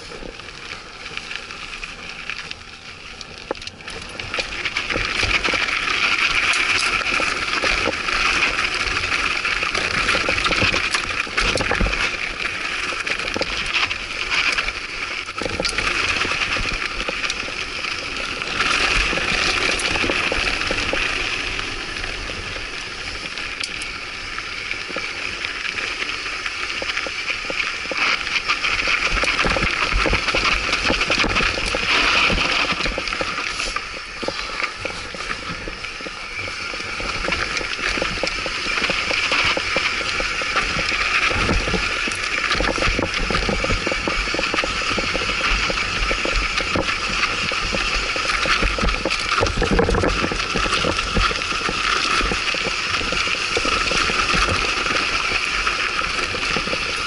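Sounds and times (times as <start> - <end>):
bike rattling and knocking: 0.0 - 57.0
tyres crunching over dirt and rock: 0.0 - 57.0.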